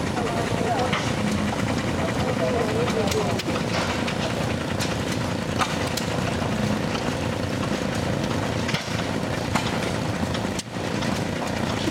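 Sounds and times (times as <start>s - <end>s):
small engines chugging: 0.0s - 11.9s.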